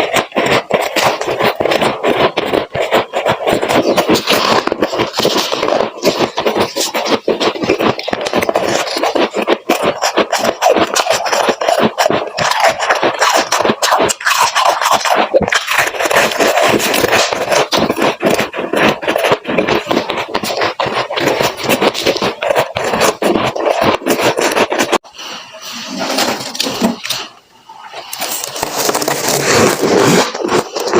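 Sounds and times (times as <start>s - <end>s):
frost crunching and scraping: 0.0s - 30.9s.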